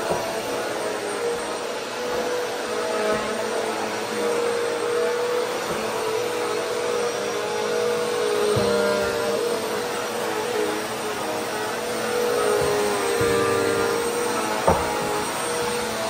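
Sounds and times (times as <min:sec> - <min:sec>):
vacuum cleaner on carpet: 0:00.0 - 0:16.0.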